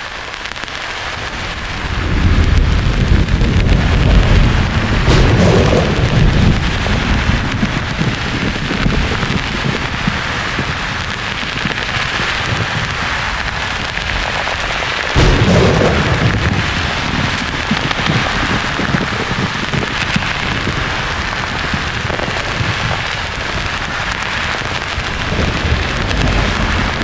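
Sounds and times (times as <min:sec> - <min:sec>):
heavy rain hiss: 0:00.0 - 0:27.0
thunderclap rumbling: 0:01.0 - 0:27.0.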